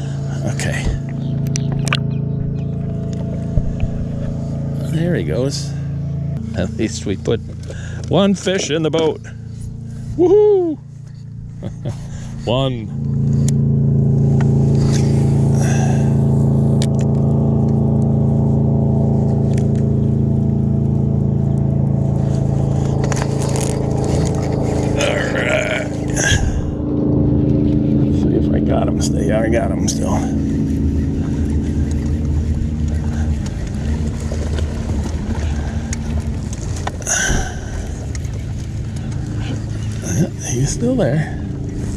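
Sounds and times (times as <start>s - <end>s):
boat motor droning: 0.0s - 41.9s
high whir: 0.0s - 41.9s.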